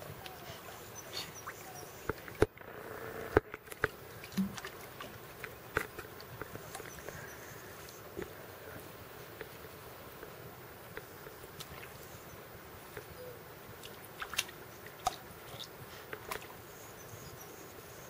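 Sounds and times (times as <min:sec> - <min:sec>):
pool water splashing: 0:00.0 - 0:16.7.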